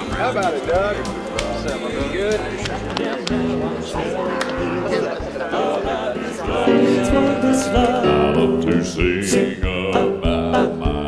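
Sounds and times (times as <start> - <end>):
band accompaniment with beat: 0.0 - 11.0
male vocal quartet singing: 0.0 - 11.0.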